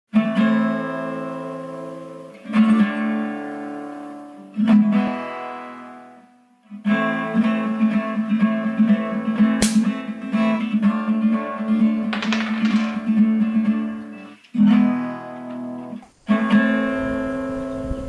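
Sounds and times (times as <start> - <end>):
strummed guitar: 0.1 - 18.0.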